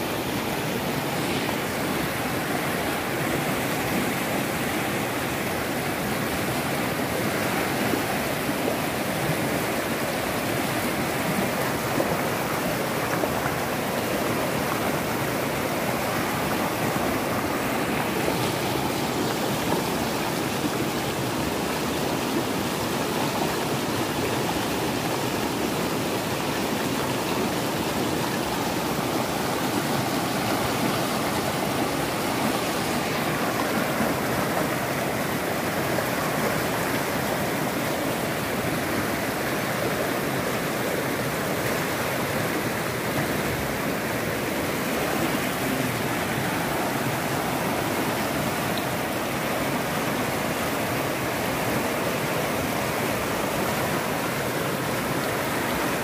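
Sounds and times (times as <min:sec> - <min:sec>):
flood water rushing: 0:00.0 - 0:56.0.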